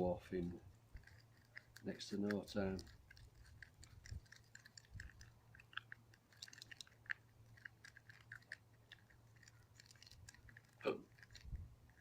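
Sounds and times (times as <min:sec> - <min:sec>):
brush dabbing sticky resin: 0:00.0 - 0:12.0.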